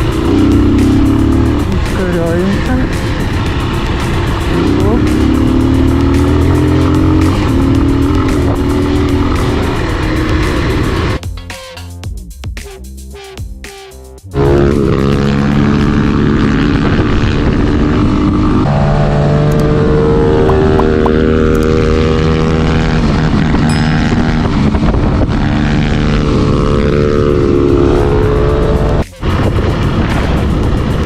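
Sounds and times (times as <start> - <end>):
motorcycle engine running: 0.0 - 11.5, 14.3 - 31.0.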